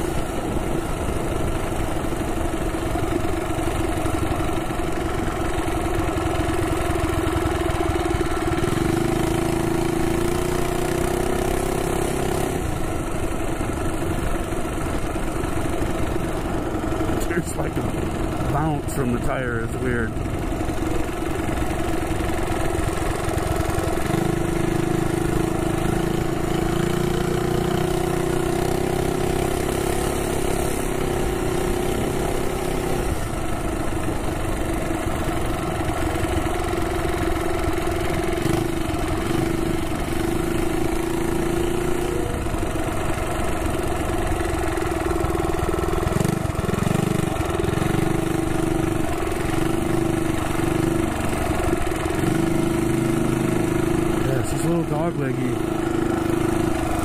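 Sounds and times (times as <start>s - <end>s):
minibike engine running: 0.0s - 57.0s.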